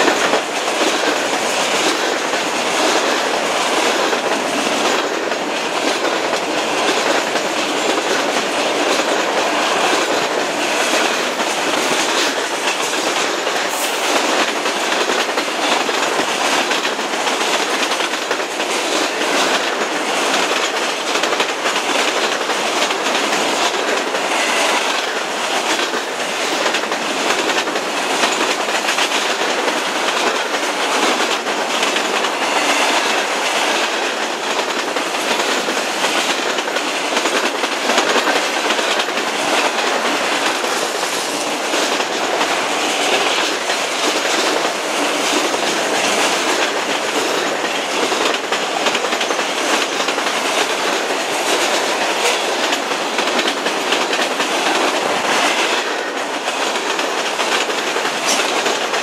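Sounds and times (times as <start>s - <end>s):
freight train wheels on rails: 0.0s - 59.0s
wheels clicking over rail joints: 0.0s - 59.0s.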